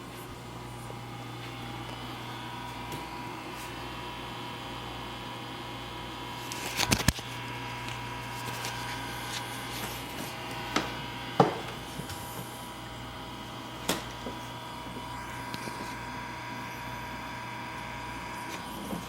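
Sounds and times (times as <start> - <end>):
aquarium pump humming: 0.0 - 19.0.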